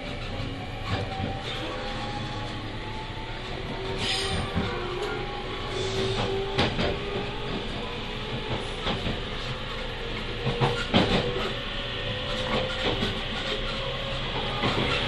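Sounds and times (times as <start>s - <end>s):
rail-joint clacks: 0.0s - 2.6s, 3.4s - 15.0s
train wheels on rails: 0.0s - 15.0s.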